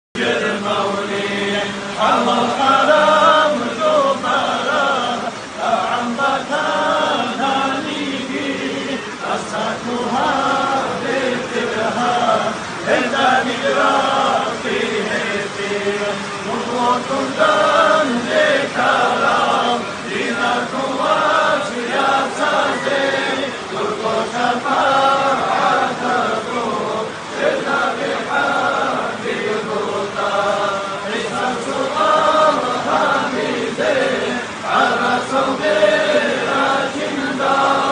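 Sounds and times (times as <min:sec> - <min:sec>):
lead voice singing: 0:00.2 - 0:37.9
men chanting together: 0:00.2 - 0:37.9.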